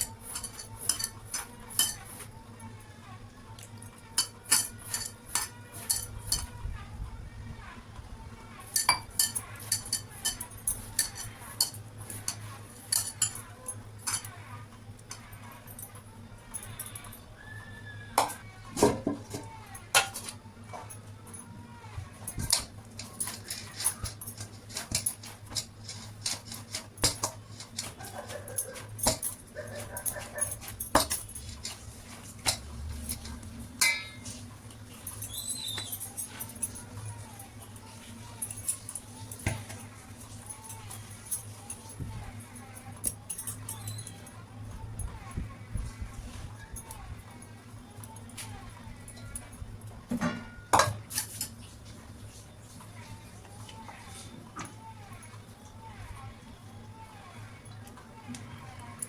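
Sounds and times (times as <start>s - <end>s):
utensils and dishes clinking: 0.0s - 6.8s, 8.3s - 59.0s.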